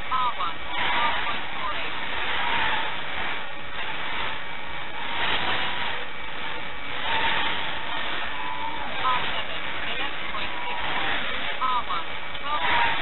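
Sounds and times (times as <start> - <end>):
quadcopter motors and propellers whirring: 0.0 - 13.0.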